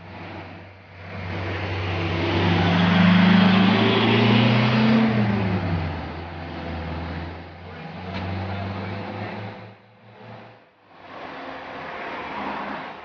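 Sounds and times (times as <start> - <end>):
truck engine revving: 0.0 - 12.7.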